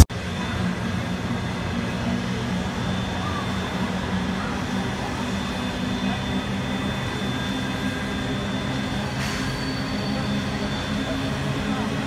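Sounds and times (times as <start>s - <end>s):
locomotive engine drone: 0.0s - 12.0s
thin steady whine: 0.0s - 12.0s.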